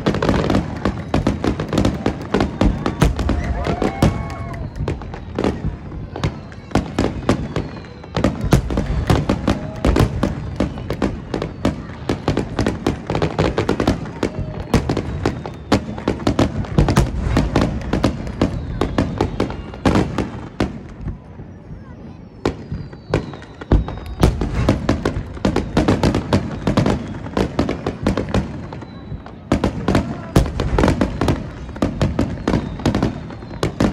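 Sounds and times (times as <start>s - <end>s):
fireworks bursting: 0.0s - 33.9s.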